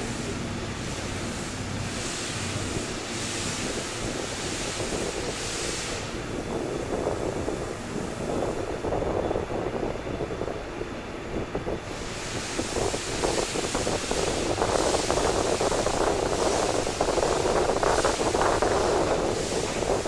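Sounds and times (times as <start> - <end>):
train coach running noise: 0.0 - 20.0.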